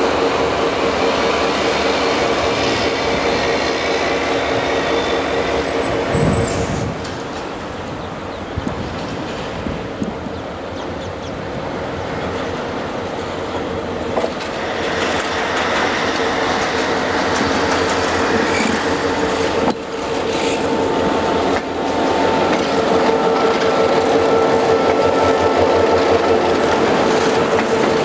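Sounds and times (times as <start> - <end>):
diesel locomotive engine whine: 0.0 - 28.0.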